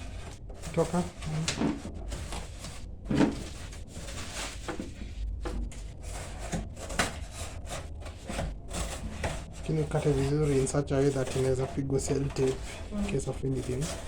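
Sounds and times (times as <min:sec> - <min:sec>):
cardboard being cut and handled: 0:00.0 - 0:14.0.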